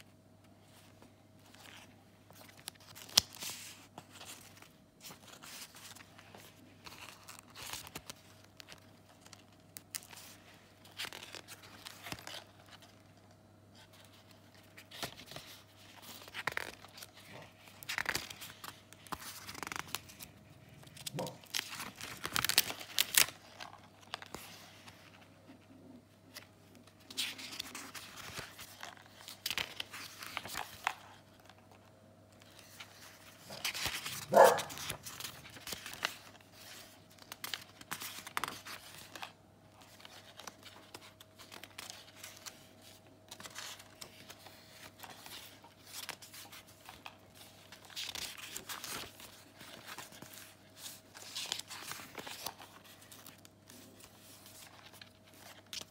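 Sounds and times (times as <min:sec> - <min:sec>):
paper pages rustling: 0:00.4 - 0:55.9.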